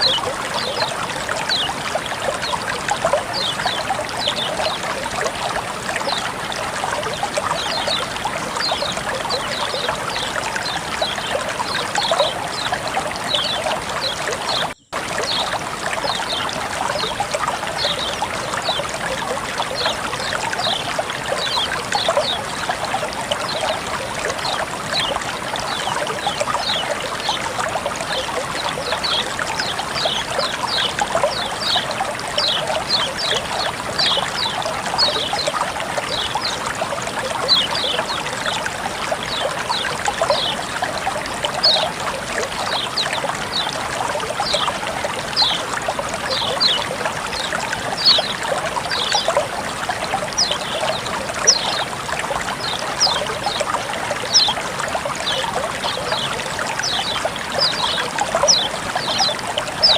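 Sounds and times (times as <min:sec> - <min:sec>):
bright water plinks: 0:00.0 - 0:59.9
water trickling and splashing: 0:00.0 - 0:59.9.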